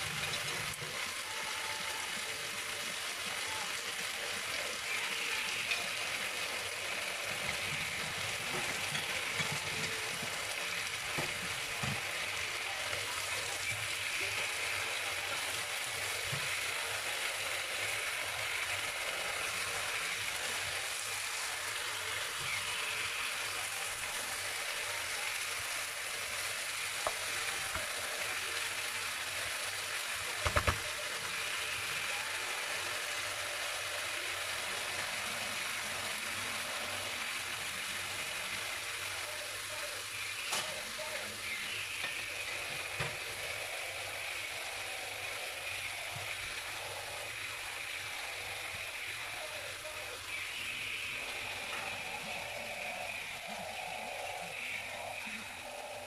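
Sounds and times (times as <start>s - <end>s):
chicken sizzling in frying pan: 0.0s - 56.0s.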